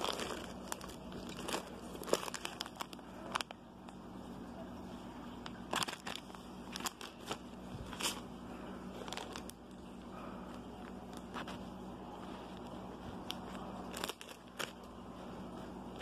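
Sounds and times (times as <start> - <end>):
plastic bag crinkling: 0.0 - 4.0, 5.4 - 16.0.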